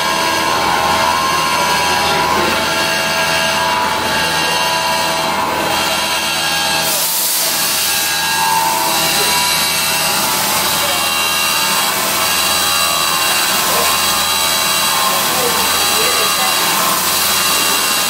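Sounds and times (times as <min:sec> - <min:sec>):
end mill cutting steel pipe: 0:00.0 - 0:18.0
milling machine running: 0:00.0 - 0:18.0.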